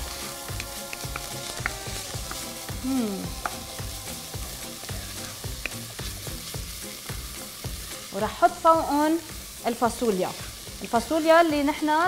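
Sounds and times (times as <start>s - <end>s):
onion and garlic sizzling in oil: 0.0s - 12.0s.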